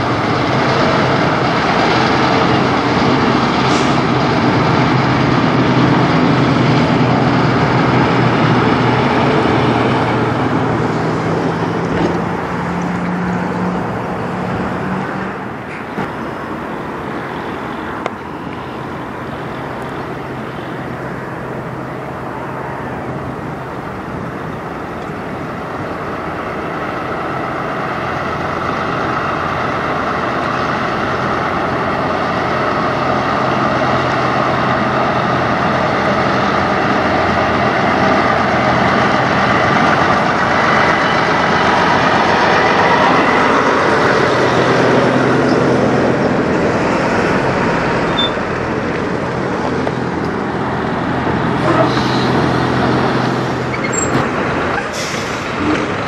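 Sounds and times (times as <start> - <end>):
truck diesel engine driving past: 0.0 - 56.0.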